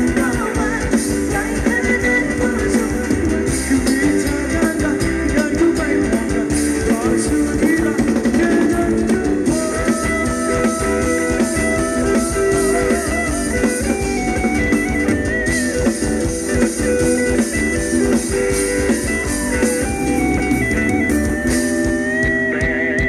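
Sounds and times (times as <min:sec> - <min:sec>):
band playing dance music: 0:00.0 - 0:23.0
busy drum beat: 0:00.0 - 0:23.0
lead melody: 0:00.0 - 0:23.0.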